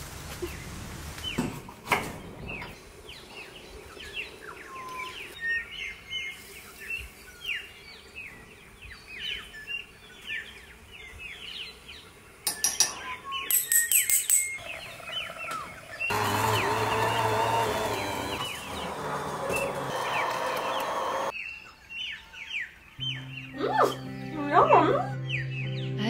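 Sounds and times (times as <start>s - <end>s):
birds chirping: 0.4s - 26.0s.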